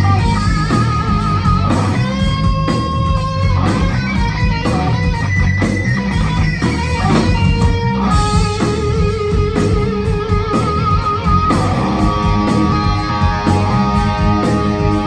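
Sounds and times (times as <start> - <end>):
bass guitar: 0.0 - 15.0
drums: 0.0 - 15.0
electric guitar lead line: 0.0 - 15.0.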